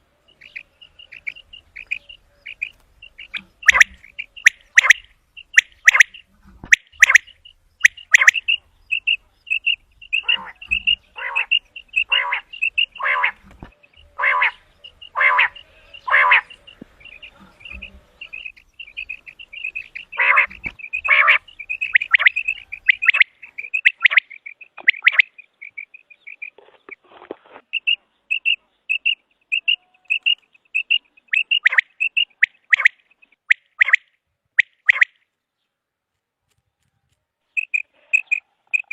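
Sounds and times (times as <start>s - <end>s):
quail calling: 0.0s - 35.2s, 37.6s - 38.9s.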